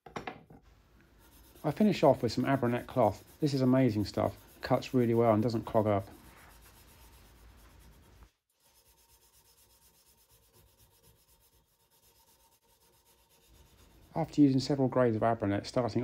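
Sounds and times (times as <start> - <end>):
abrasive cloth rubbing on metal: 1.2 - 14.9.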